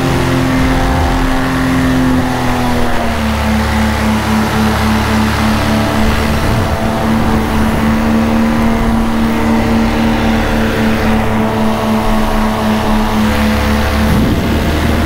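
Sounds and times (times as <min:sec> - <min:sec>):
paramotor engine drone: 0:00.0 - 0:15.0.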